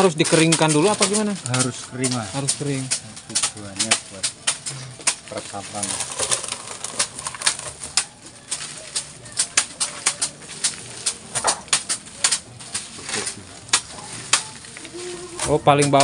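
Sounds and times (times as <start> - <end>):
hands scooping dry feed: 0.0 - 16.0.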